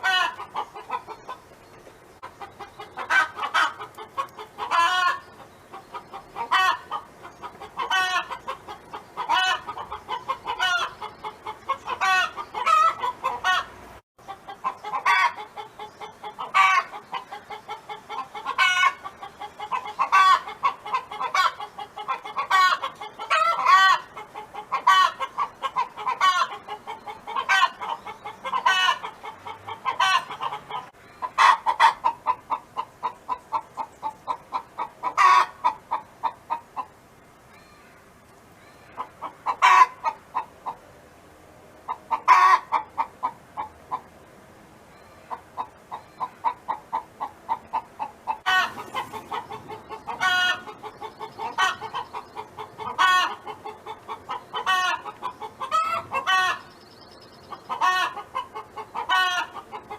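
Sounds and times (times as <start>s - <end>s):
hen cackling: 0.0s - 1.5s, 2.2s - 40.8s, 41.8s - 44.1s, 44.9s - 56.8s, 57.4s - 59.9s.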